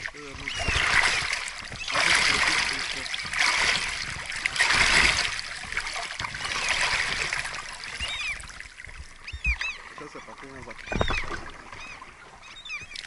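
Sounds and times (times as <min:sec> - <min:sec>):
paddle splashing water: 0:00.0 - 0:13.0.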